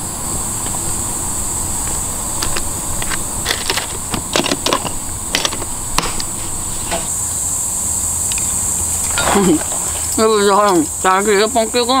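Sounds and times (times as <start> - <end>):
insects chorusing: 0.0 - 12.0.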